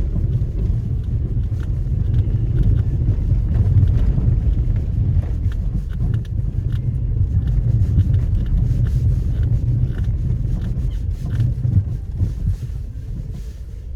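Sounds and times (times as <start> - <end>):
small knocks and ticks: 0.0 - 12.4
engine and tyres rumbling: 0.0 - 13.9.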